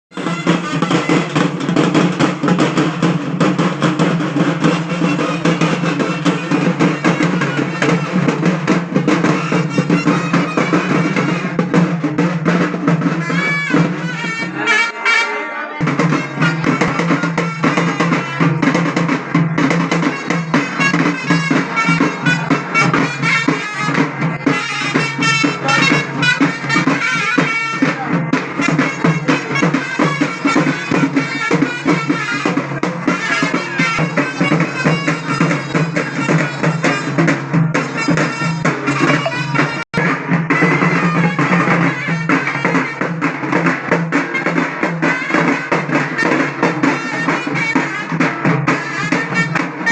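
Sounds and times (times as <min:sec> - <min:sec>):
wind instrument melody: 0:00.1 - 0:11.9, 0:12.9 - 0:49.9
fast dense drumming: 0:00.1 - 0:14.4, 0:15.8 - 0:49.9.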